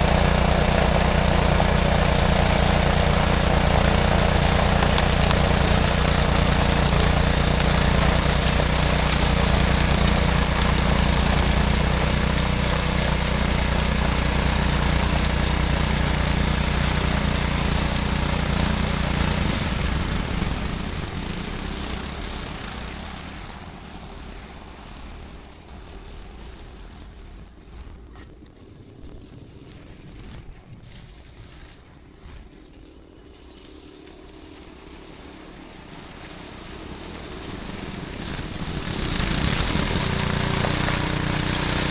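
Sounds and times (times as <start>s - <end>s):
snowblower engine running: 0.0s - 25.5s, 33.6s - 41.9s.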